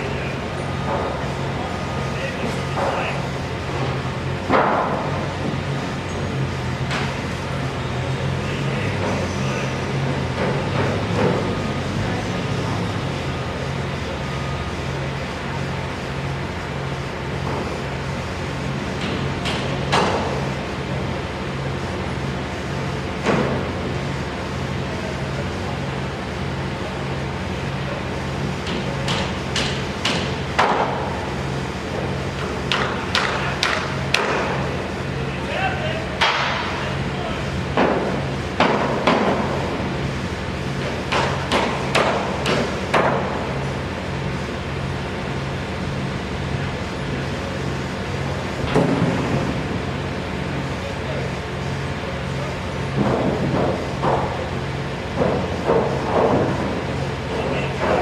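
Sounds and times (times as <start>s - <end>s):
machinery drone: 0.0s - 58.0s.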